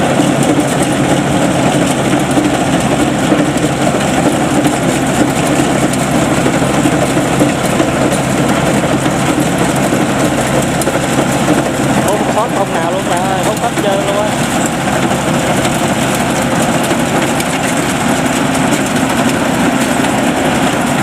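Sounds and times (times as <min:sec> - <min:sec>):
combine harvester droning with clatter: 0:00.0 - 0:21.0.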